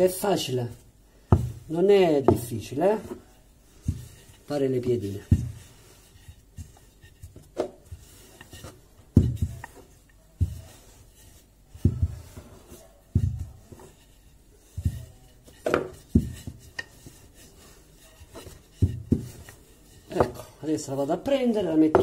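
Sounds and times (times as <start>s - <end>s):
rolling pin rubbing dough: 0.0s - 22.0s
rolling pin thumping on dough: 0.1s - 20.6s, 21.3s - 22.0s.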